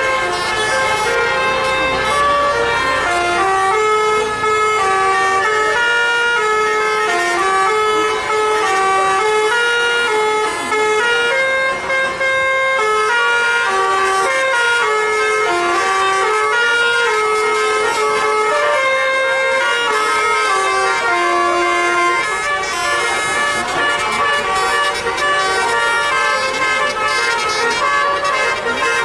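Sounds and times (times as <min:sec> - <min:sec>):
musical bus horn playing a tune: 0:00.0 - 0:29.0.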